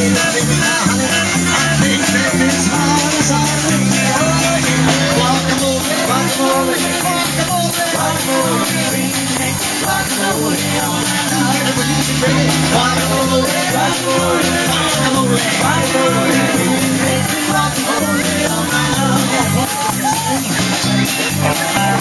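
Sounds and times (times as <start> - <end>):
live band with guitar and keyboard: 0.0 - 22.0.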